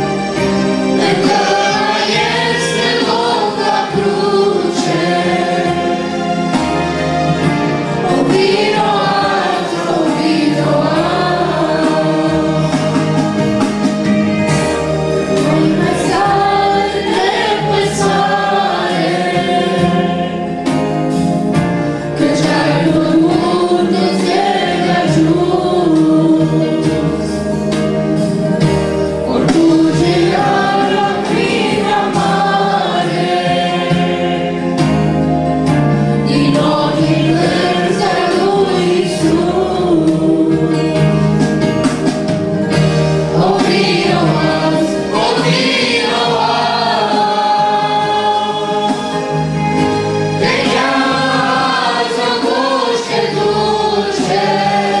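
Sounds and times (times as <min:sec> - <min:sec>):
choir singing a hymn: 0:00.0 - 0:55.0
instrumental backing with bass: 0:00.0 - 0:55.0.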